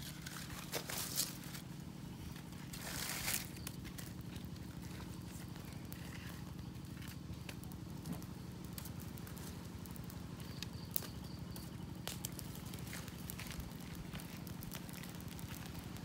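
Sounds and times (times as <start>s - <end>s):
campfire crackling: 0.0s - 16.0s
fire popping: 0.0s - 16.0s.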